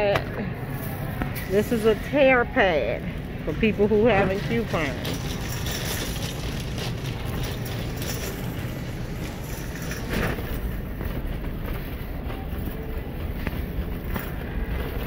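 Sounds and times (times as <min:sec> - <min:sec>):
shopping cart rattling along floor: 0:00.7 - 0:02.9, 0:03.5 - 0:15.0.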